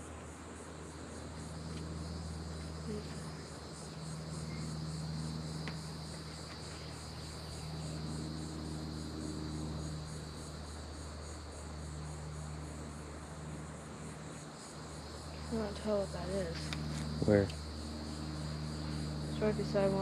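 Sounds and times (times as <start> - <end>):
insects high trill: 0.0 - 20.0
insects pulsing buzz: 0.0 - 20.0
low steady hum: 0.0 - 20.0.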